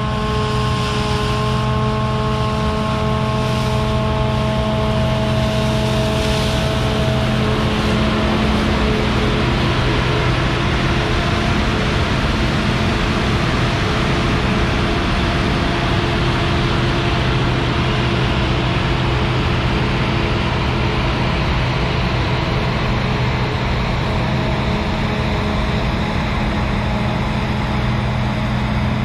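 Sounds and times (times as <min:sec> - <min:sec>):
combine harvester running: 0:00.0 - 0:29.0.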